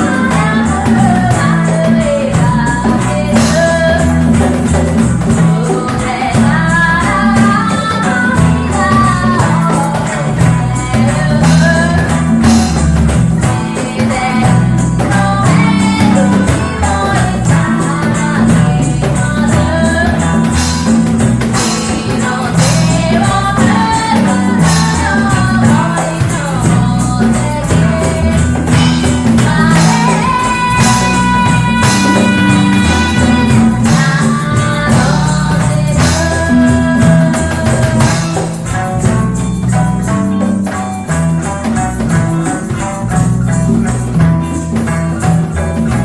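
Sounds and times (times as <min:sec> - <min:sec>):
live reggae band: 0:00.0 - 0:46.0
person singing: 0:00.0 - 0:46.0.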